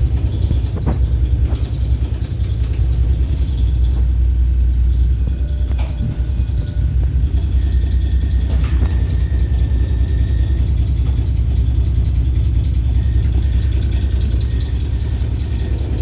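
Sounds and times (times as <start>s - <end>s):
thin high whine: 0.0s - 16.0s
tram rumbling: 0.0s - 16.0s.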